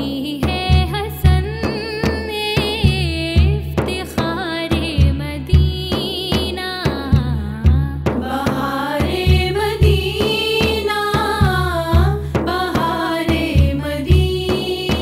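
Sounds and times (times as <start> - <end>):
frame drums beating: 0.0 - 15.0
women singing devotional song: 0.0 - 15.0.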